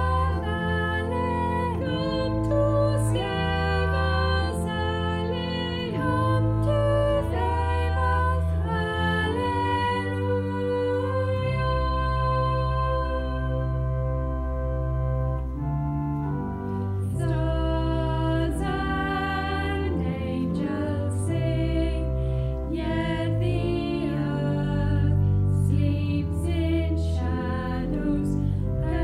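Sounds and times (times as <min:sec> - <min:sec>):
women singing: 0:00.0 - 0:13.7, 0:17.2 - 0:29.0
church organ chords: 0:00.0 - 0:29.0.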